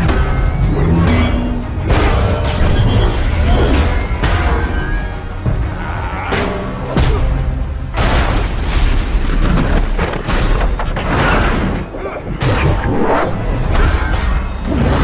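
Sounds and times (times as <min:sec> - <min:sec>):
heavy booms and clashing impacts: 0:00.0 - 0:05.8, 0:06.4 - 0:15.0
loud dramatic music: 0:00.0 - 0:15.0.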